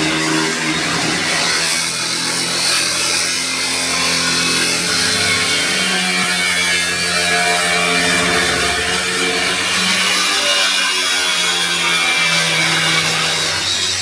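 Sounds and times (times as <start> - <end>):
power tool motor humming: 0.0 - 14.0.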